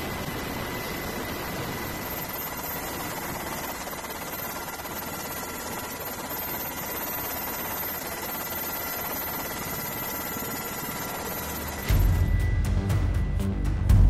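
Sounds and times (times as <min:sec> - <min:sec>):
helicopter engine in flight: 0:00.0 - 0:14.0.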